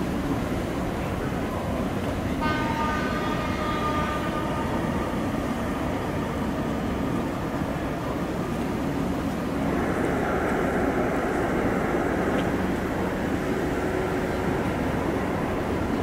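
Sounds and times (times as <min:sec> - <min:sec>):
electric train rumbling: 0:00.0 - 0:16.0
train whine: 0:00.0 - 0:16.0.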